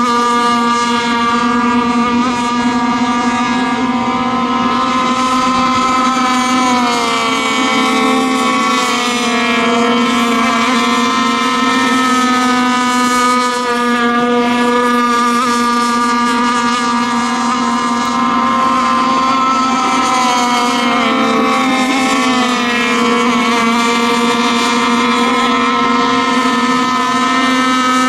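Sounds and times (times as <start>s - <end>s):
model boat engines buzzing: 0.0s - 28.0s.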